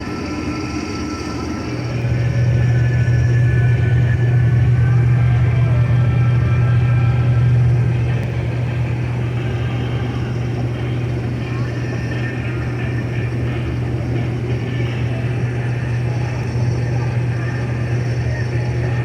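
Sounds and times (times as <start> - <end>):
diesel machinery engine hum: 0.0 - 19.0.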